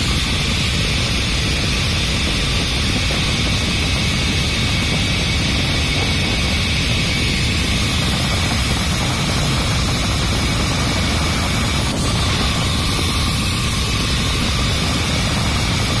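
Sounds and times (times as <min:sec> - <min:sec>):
tube cutting machine whining: 0:00.0 - 0:16.0.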